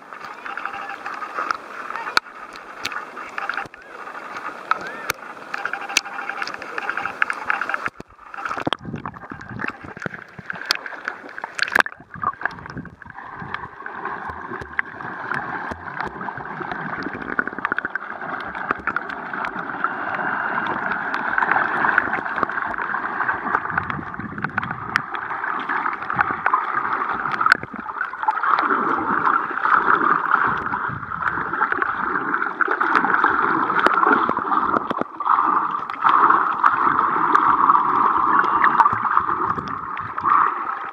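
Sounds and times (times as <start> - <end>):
muffled water sloshing and gurgling: 0.0 - 40.9.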